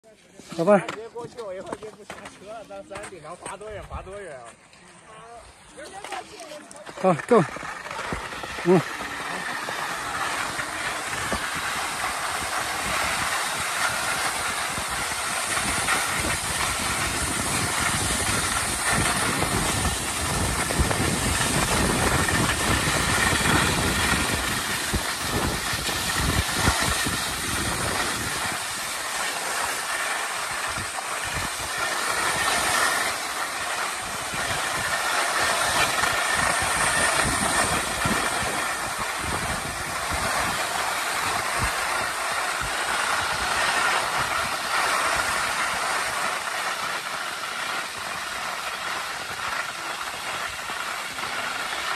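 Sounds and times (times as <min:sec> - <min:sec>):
skis scraping over snow: 0:00.0 - 0:51.9.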